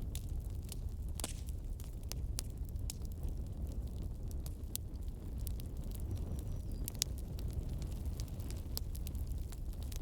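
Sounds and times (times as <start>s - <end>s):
low rumble of flames: 0.0s - 10.0s
wood fire crackling and popping: 0.0s - 10.0s.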